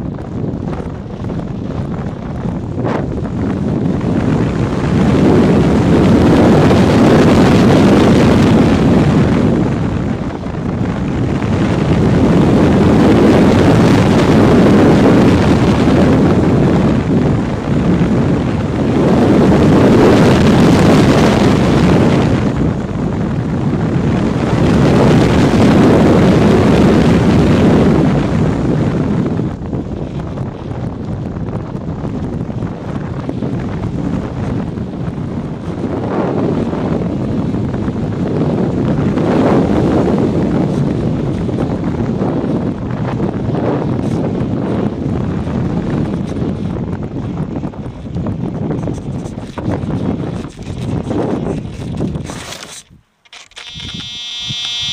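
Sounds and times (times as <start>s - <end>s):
rushing airflow: 0.0s - 54.0s.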